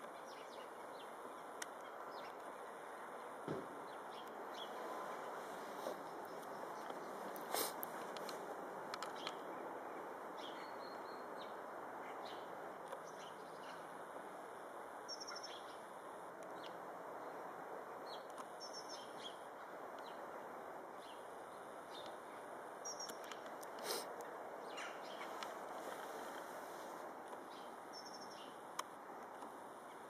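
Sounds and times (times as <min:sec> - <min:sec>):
small birds chirping: 0:00.0 - 0:14.0, 0:15.0 - 0:20.3, 0:21.0 - 0:30.0
outdoor background noise: 0:00.0 - 0:30.0.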